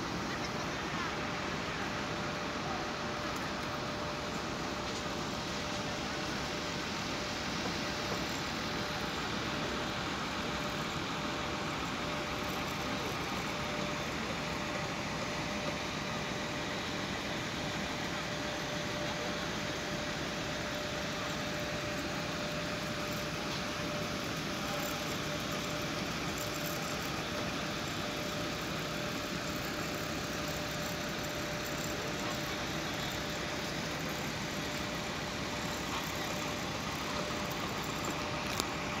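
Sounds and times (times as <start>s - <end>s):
machinery humming: 0.0s - 39.0s.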